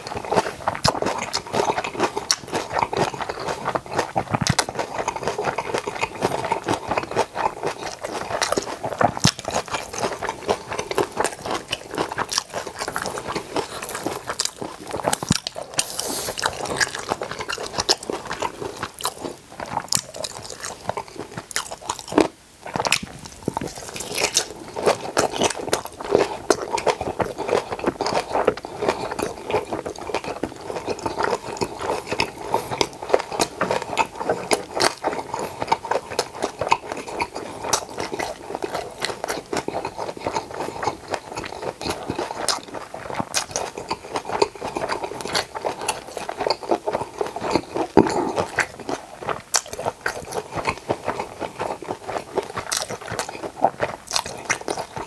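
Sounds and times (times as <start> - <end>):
person chewing and crunching food: 0.0 - 55.0.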